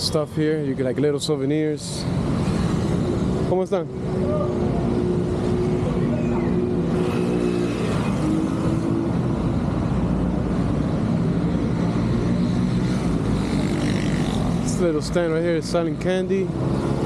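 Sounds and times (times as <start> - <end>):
road noise: 0.0 - 17.0
vehicle engines running: 0.0 - 17.0.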